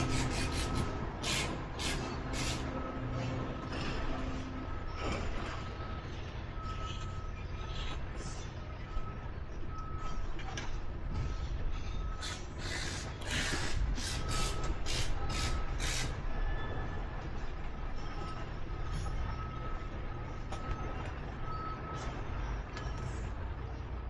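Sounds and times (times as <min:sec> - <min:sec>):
reversing alarm beeping: 0:00.0 - 0:23.4
low engine rumble: 0:00.0 - 0:24.0.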